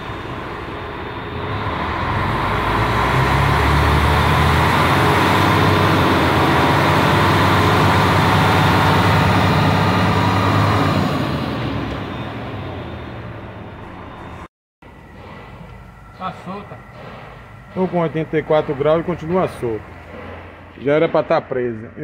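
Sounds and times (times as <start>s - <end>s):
diesel truck engine revving: 0.0s - 14.5s, 15.2s - 22.0s.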